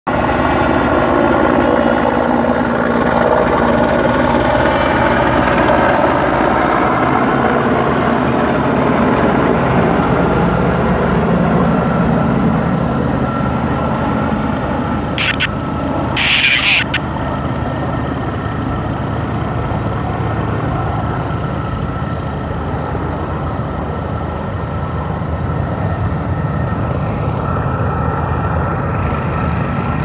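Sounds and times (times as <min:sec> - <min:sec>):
helicopter rotor rumble: 0:00.1 - 0:30.0
high turbine whine: 0:00.1 - 0:30.0.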